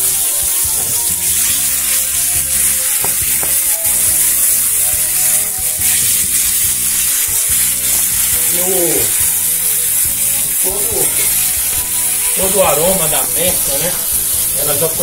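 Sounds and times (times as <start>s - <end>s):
fish frying on a griddle: 0.0s - 15.0s.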